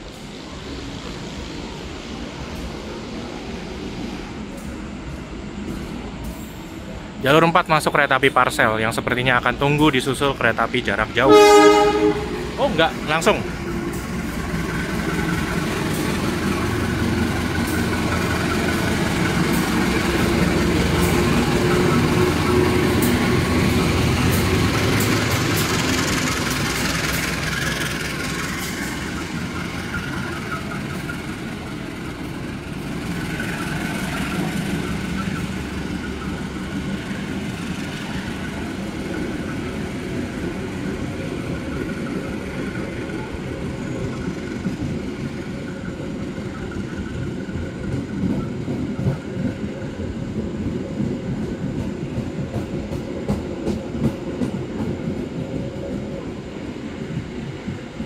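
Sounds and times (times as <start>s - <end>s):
diesel locomotive passing: 0.0s - 58.0s.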